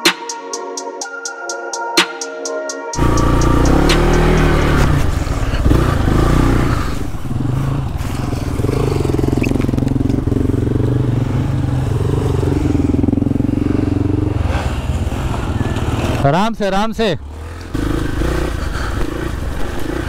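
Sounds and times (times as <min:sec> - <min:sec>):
motorcycle engine revving: 0:03.0 - 0:16.4, 0:17.0 - 0:20.0.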